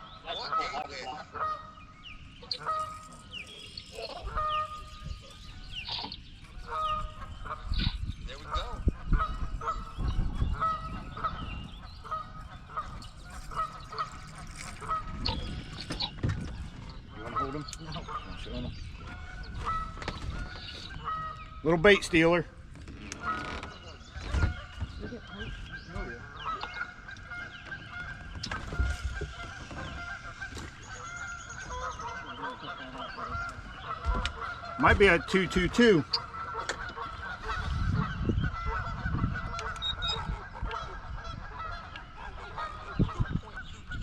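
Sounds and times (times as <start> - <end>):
birds calling: 0.0 - 44.0
geese honking: 0.0 - 44.0.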